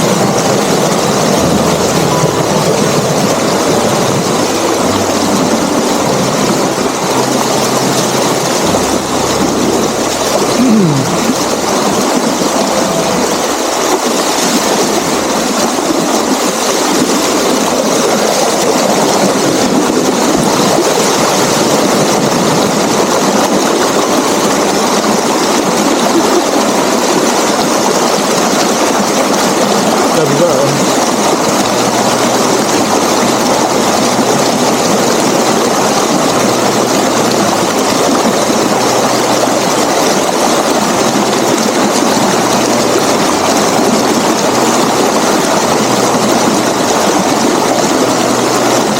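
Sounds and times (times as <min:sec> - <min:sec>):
water rushing at a dam: 0:00.0 - 0:48.9.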